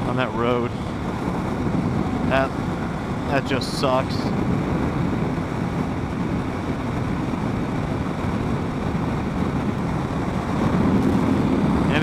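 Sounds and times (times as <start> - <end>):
motorcycle cruising drone: 0.0 - 12.0.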